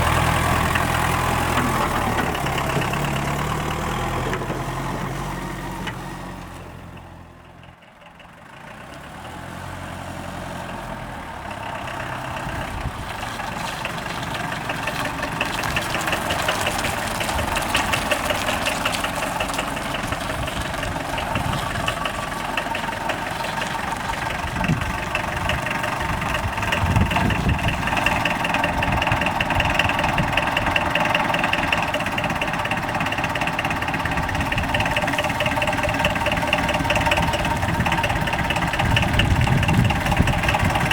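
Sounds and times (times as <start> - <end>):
diesel engine clattering: 0.0 - 40.9.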